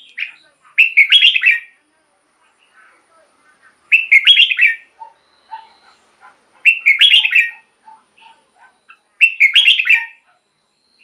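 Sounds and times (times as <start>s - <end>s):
bird singing warbled phrases: 0.0s - 1.8s, 2.4s - 11.0s.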